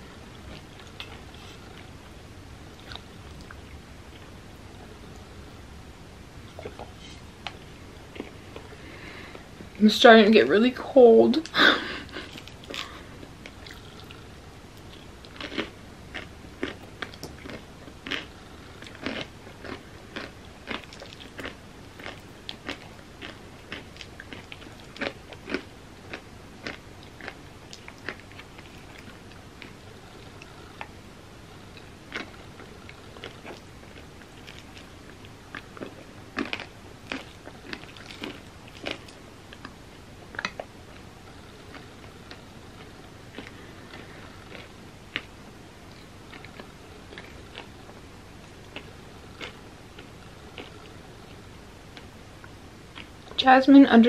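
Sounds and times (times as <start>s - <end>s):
chewing and crunching: 2.7s - 4.3s, 6.5s - 8.8s, 12.0s - 30.9s, 31.7s - 53.4s.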